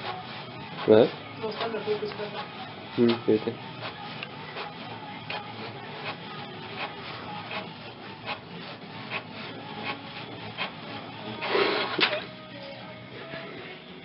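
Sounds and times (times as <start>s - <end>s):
inkjet printer printing: 0.0s - 12.5s.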